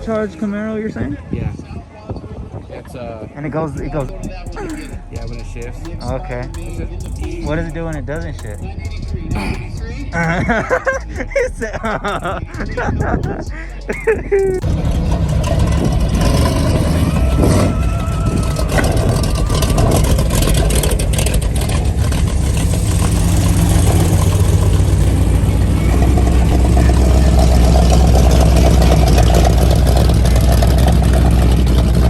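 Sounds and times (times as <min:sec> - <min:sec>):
car engine running: 0:03.8 - 0:32.0.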